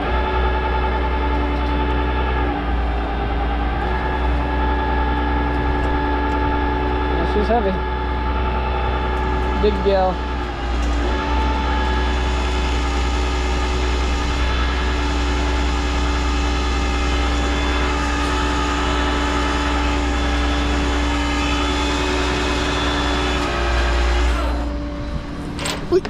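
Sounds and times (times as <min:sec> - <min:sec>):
hydraulic winch whining: 0:00.0 - 0:26.0
truck engine running: 0:00.0 - 0:26.0.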